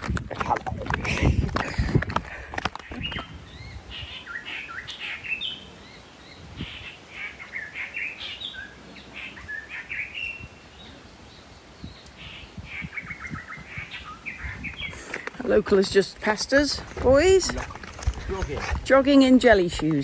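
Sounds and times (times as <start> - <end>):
birds chirping and singing: 0.0 - 20.0.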